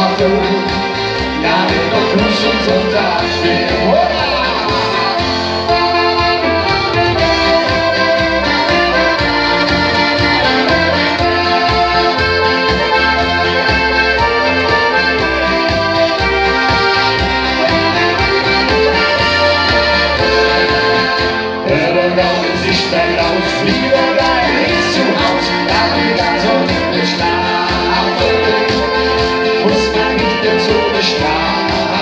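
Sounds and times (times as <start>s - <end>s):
instrumental band music: 0.0s - 32.0s.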